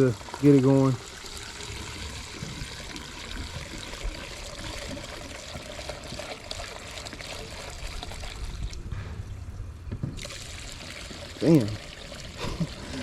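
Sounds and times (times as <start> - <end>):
gasoline pouring into fuel tank: 0.0 - 13.0.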